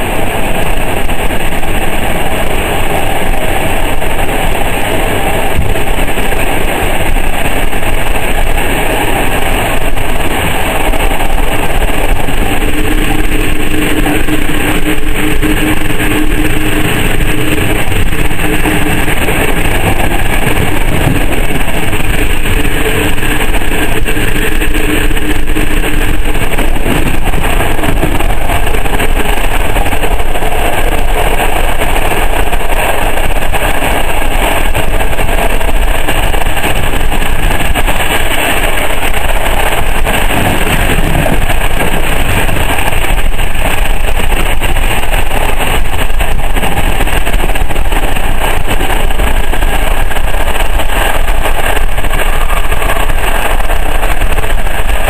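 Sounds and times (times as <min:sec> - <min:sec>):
steady hum: 0:00.0 - 0:55.0
train wheels rumbling on rail: 0:00.0 - 0:55.0.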